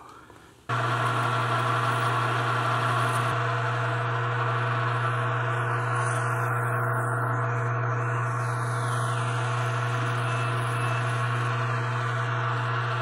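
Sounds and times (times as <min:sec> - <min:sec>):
metal lathe humming: 0:00.7 - 0:13.0.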